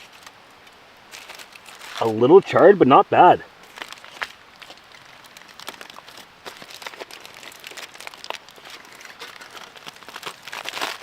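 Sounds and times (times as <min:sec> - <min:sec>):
wrapping crinkling: 0:00.0 - 0:02.8, 0:03.6 - 0:11.0.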